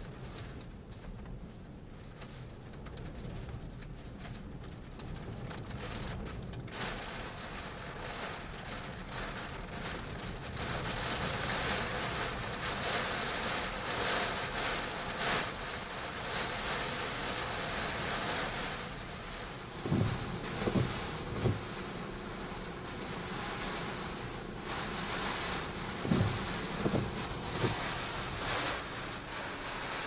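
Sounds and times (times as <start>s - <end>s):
heavy rain: 5.0s - 30.0s.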